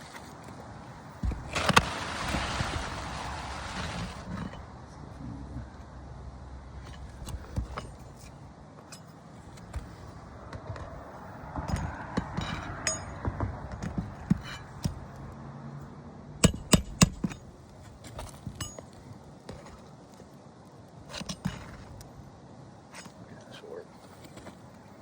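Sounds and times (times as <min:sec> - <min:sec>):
roofing tools and shingles handled: 0:00.0 - 0:04.8, 0:06.8 - 0:15.4, 0:16.4 - 0:22.2, 0:22.9 - 0:25.0
rustling and scraping: 0:00.0 - 0:05.0, 0:06.8 - 0:15.4, 0:17.1 - 0:22.2, 0:22.8 - 0:25.0.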